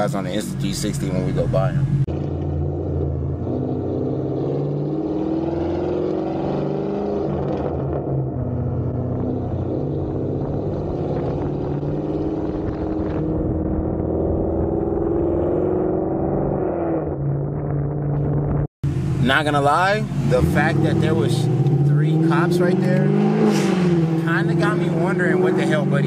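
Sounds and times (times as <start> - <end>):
car exhaust roaring: 0.0 - 26.0.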